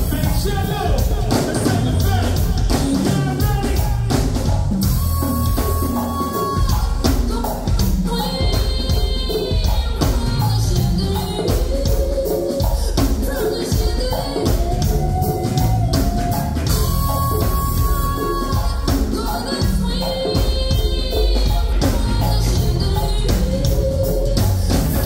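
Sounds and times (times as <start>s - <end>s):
live band playing: 0.0s - 25.0s
person singing: 0.0s - 25.0s.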